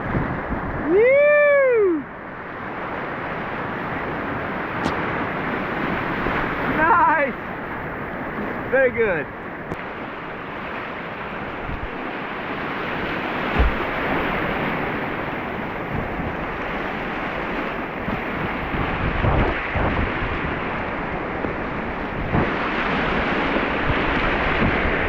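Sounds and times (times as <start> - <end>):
wind buffeting microphone: 0.0 - 25.0
whitewater rushing: 0.7 - 25.0.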